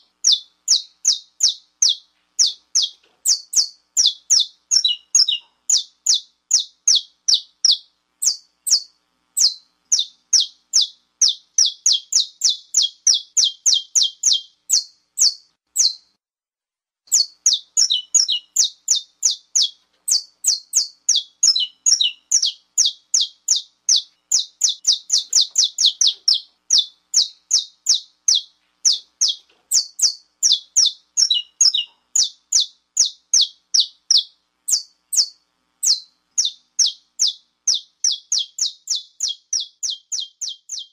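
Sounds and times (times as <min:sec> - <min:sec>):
finch chip calls: 0:00.2 - 0:16.0, 0:17.1 - 0:40.9.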